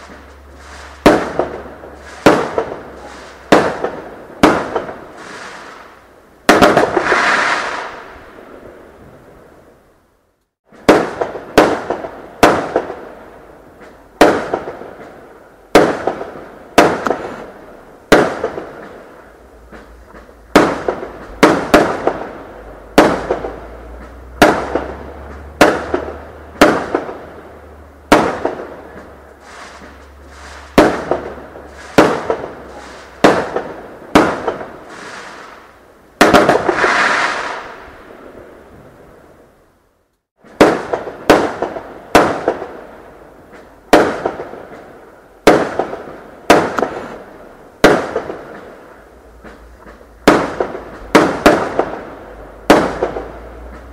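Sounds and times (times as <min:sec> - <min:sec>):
fireworks banging: 0:00.0 - 0:09.4, 0:10.6 - 0:39.1, 0:40.4 - 0:53.9
fireworks crackling: 0:00.0 - 0:09.8, 0:10.6 - 0:39.6, 0:40.3 - 0:53.9.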